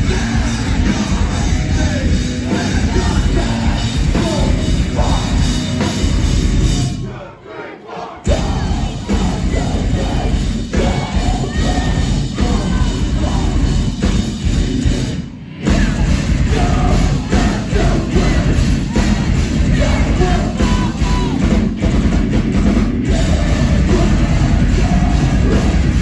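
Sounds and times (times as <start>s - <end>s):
pounding drums: 0.0s - 7.2s, 8.1s - 26.0s
metal band playing loud: 0.0s - 7.3s, 8.0s - 26.0s
vocals: 0.0s - 26.0s.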